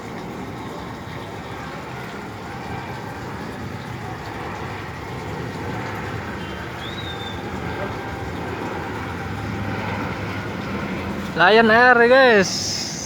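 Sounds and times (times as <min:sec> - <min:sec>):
jet airliner passing overhead: 0:00.0 - 0:13.0.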